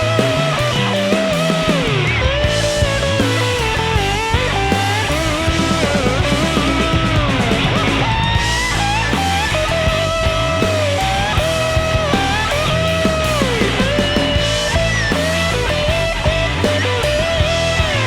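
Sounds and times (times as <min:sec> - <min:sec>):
bass guitar: 0:00.0 - 0:18.0
electric guitar lead with bends: 0:00.0 - 0:18.0
steady drum beat: 0:00.0 - 0:18.0.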